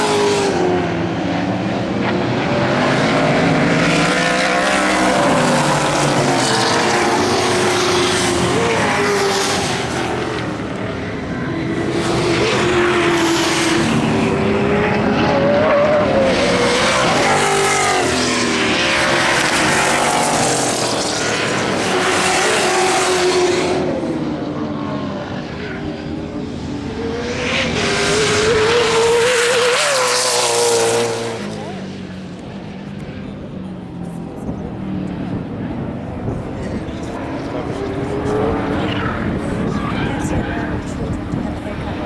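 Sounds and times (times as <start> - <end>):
racing car engines revving: 0.0 - 42.0.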